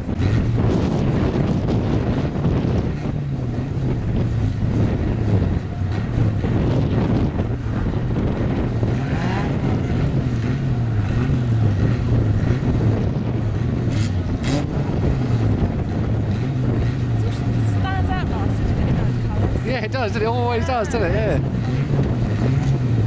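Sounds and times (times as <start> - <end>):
racing car engines droning: 0.0 - 23.0.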